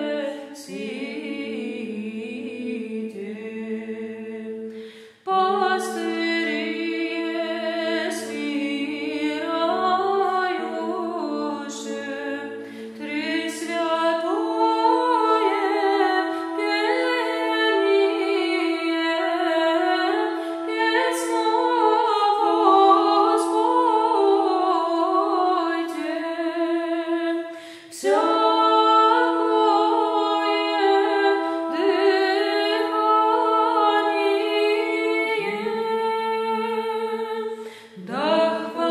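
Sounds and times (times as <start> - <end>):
women's choir chanting a cappella: 0.0 - 38.9.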